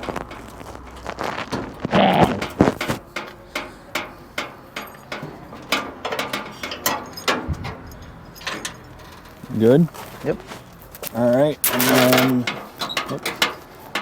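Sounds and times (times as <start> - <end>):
hand tools clanking on metal: 0.0 - 14.0
metal clatter: 0.0 - 14.0.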